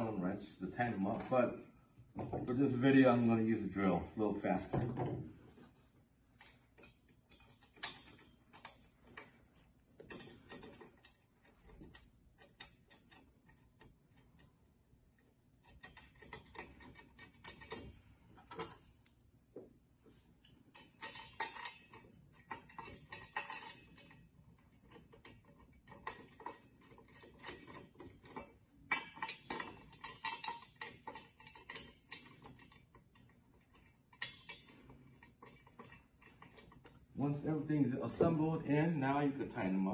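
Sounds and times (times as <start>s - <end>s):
screws and metal hardware clinking: 0.7s - 2.8s, 6.4s - 19.4s, 20.4s - 38.4s.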